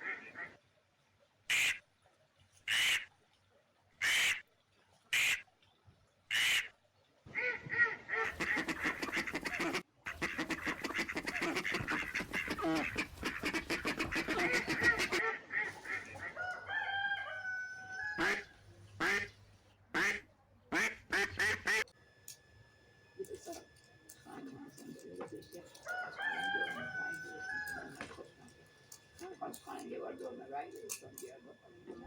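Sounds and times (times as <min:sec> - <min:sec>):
ducks quacking: 0:00.0 - 0:00.6, 0:01.5 - 0:01.8, 0:02.6 - 0:03.1, 0:04.0 - 0:04.4, 0:05.1 - 0:05.4, 0:06.3 - 0:06.7, 0:07.3 - 0:21.9, 0:23.2 - 0:32.0.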